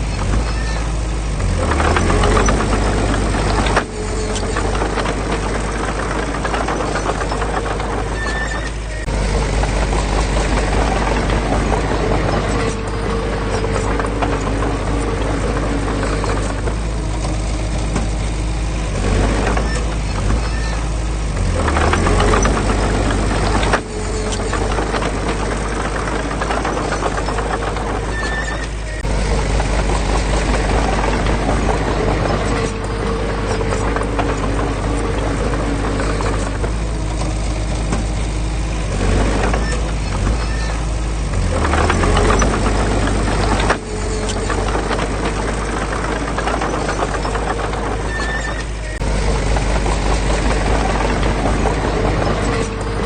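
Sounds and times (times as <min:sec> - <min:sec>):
diesel engine droning: 0:00.0 - 0:53.0
mechanical clatter: 0:00.0 - 0:53.0.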